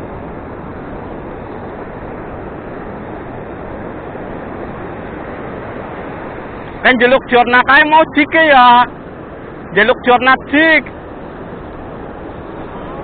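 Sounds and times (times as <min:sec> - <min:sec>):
wind on microphone: 0:00.0 - 0:09.8, 0:10.8 - 0:13.0
ocean surf roaring: 0:00.0 - 0:13.0.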